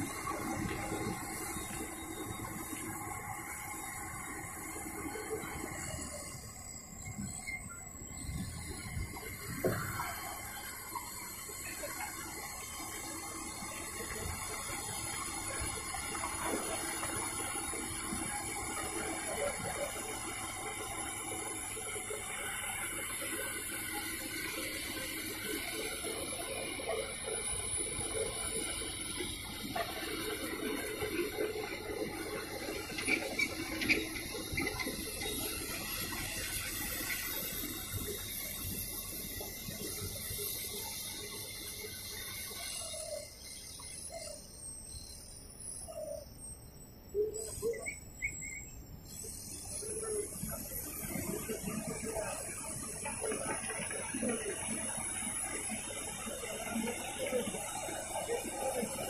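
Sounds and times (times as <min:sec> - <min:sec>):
excavator machinery hum: 0:00.0 - 0:59.0
faint high whine: 0:00.0 - 0:59.0.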